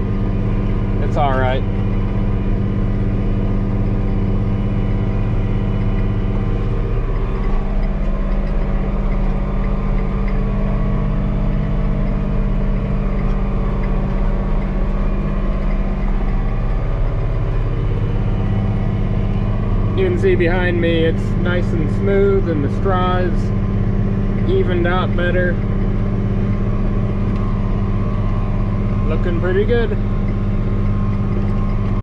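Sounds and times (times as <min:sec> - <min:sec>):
tractor engine low drone: 0:00.0 - 0:32.0.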